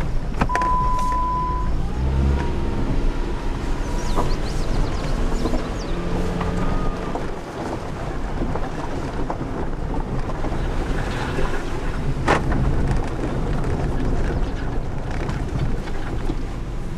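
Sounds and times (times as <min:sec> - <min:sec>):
vehicle interior rumble: 0:00.0 - 0:16.9.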